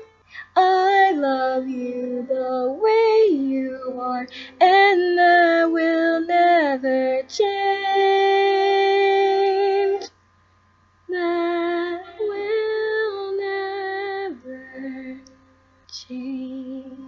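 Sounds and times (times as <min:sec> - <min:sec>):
woman singing unaccompanied: 0:00.0 - 0:10.1, 0:11.1 - 0:17.0.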